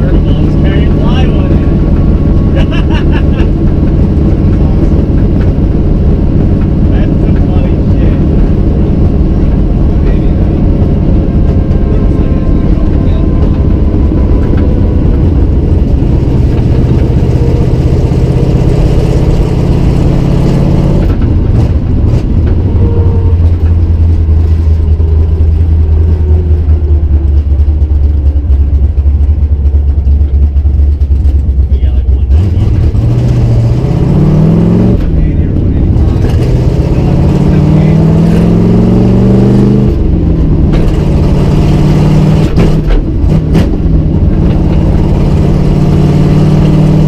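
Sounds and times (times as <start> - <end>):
loud v-eight engine cruising: 0.0 - 47.0.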